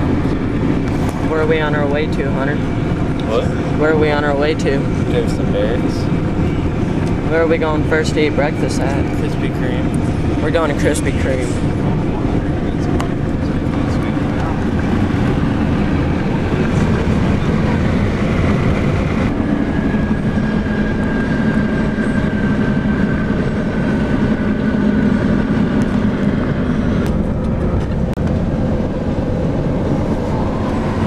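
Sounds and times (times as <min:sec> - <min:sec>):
road and wind noise in car: 0:00.0 - 0:31.0.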